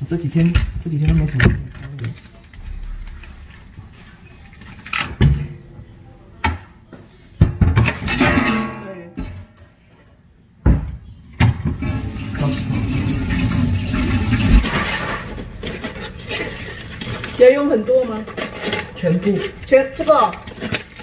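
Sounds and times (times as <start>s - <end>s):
kitchen knocks and clatters: 0.0s - 6.8s, 7.4s - 9.8s, 10.6s - 21.0s.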